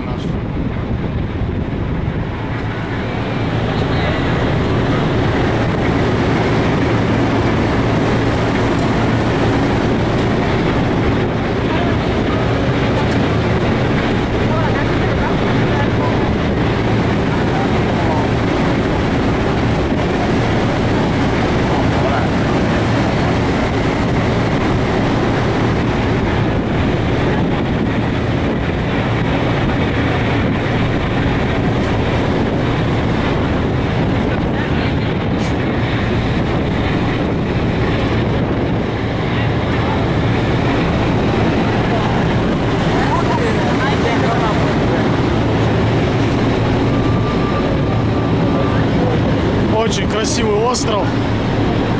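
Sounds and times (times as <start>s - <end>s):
ferry engine hum: 0.0s - 51.9s
wind and wake water rushing: 0.0s - 51.9s.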